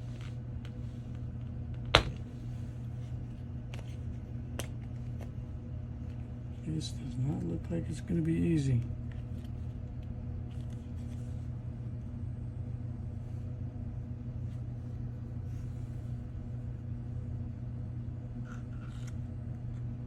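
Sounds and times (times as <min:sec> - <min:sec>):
equipment humming: 0:00.0 - 0:20.0.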